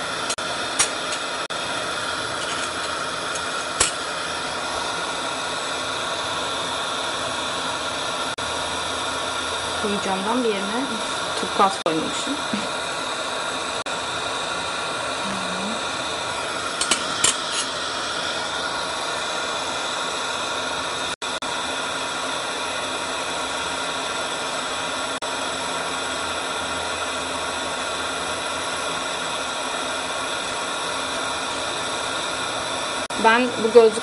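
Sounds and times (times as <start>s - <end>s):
torch burning with a hiss: 0.0s - 34.0s.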